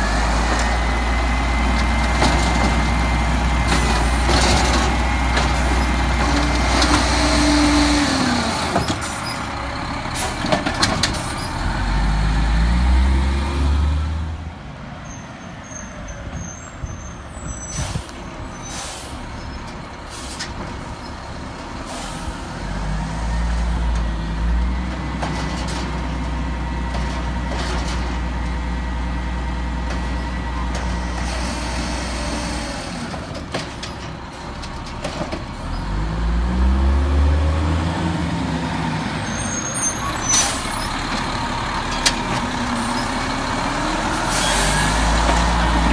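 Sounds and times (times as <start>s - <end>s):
garbage truck diesel engine revving: 0.0s - 14.6s, 20.0s - 45.9s.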